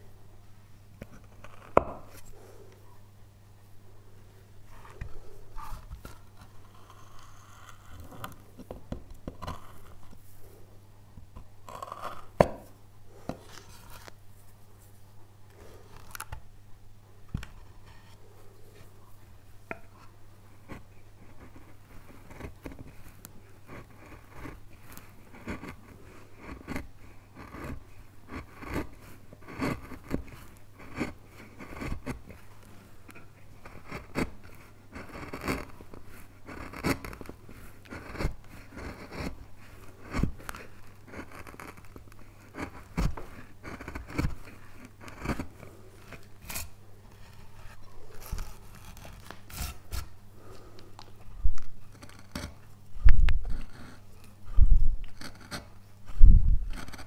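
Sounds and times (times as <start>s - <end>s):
low steady hum: 0.0s - 57.0s
knife and chisel scraping wood: 1.0s - 2.4s, 4.8s - 10.2s, 11.7s - 14.1s, 17.5s - 18.3s, 19.7s - 50.7s, 51.6s - 57.0s.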